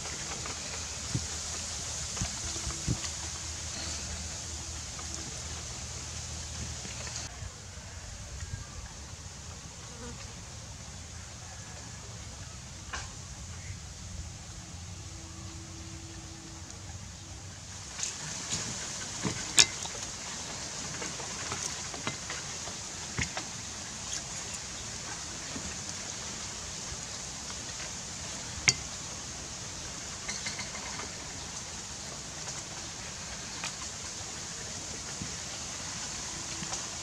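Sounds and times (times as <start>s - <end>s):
outdoor hiss: 0.0s - 37.0s.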